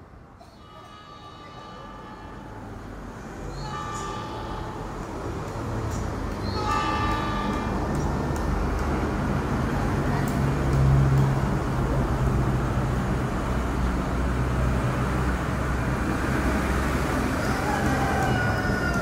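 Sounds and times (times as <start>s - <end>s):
locomotive engine drone: 0.0s - 19.0s
train wheel and rail noise: 0.0s - 19.0s.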